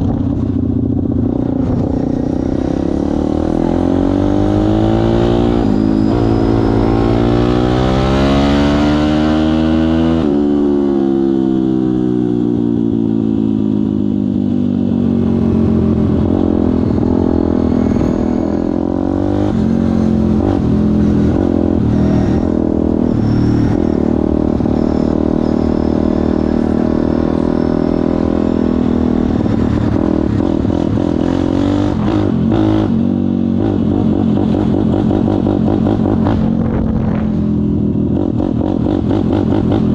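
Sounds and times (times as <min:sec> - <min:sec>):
motorbike engine revving: 0:00.0 - 0:12.0, 0:15.0 - 0:39.9.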